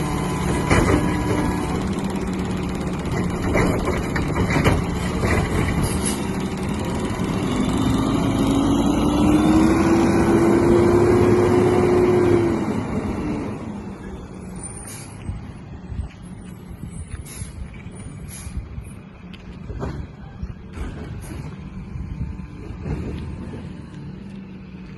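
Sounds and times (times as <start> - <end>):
truck engine revving and idling: 0.0 - 24.9.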